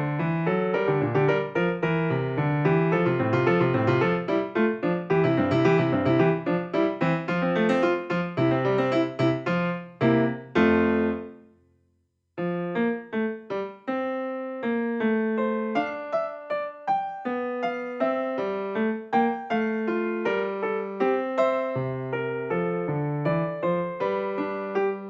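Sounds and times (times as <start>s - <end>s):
piano music: 0.0s - 11.5s, 12.4s - 25.0s.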